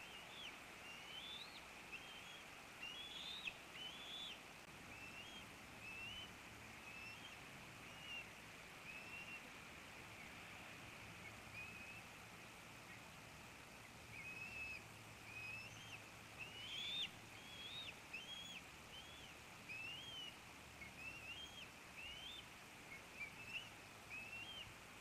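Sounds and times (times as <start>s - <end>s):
eaglet peeping: 0.0s - 9.5s, 11.2s - 24.7s
steady hiss: 0.0s - 25.0s.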